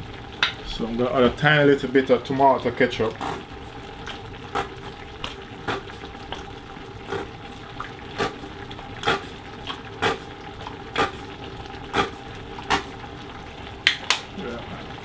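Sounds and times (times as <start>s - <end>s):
pot cooking hiss: 0.0s - 15.0s.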